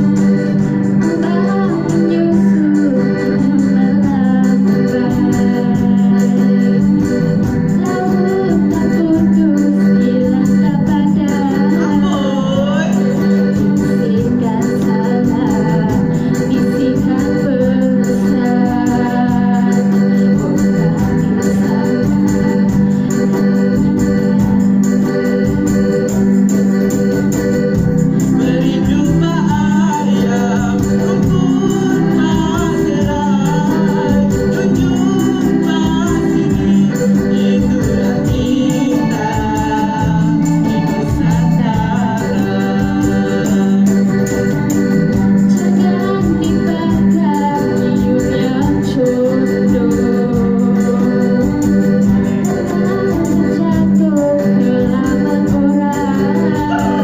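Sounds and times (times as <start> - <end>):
electronic organ chords: 0.0 - 57.0
person singing: 0.0 - 57.0.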